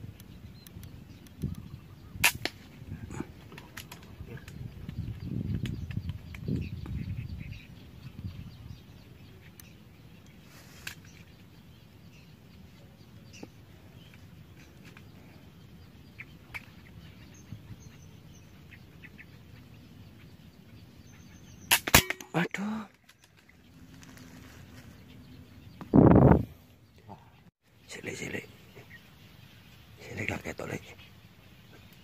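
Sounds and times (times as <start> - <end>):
faint bird chirps and calls: 0.0 - 32.0.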